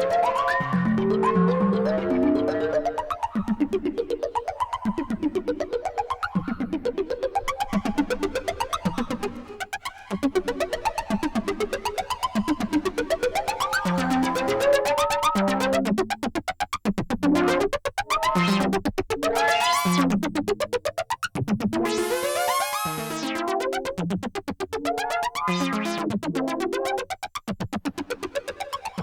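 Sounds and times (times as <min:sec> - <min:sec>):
synthesizer plucky sequenced notes: 0:00.0 - 0:29.0.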